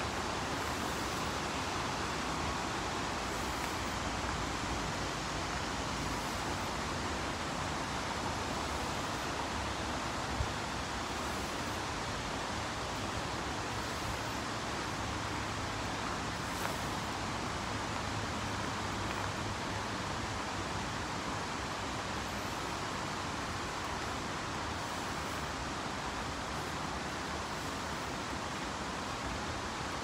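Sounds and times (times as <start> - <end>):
white water rushing in a creek: 0.0 - 30.0.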